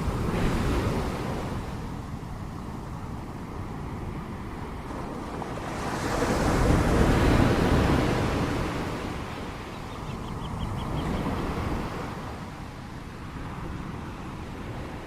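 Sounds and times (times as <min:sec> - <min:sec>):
ocean waves crashing: 0:00.0 - 0:15.0.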